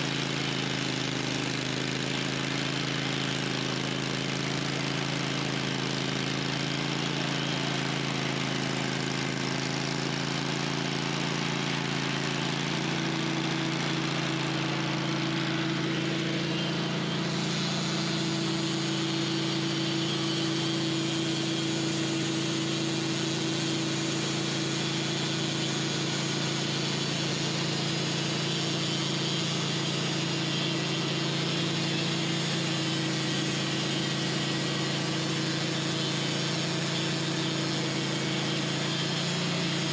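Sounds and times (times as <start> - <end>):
band sawmill engine humming: 0.0 - 39.9
band blade sawing through log: 4.2 - 39.9.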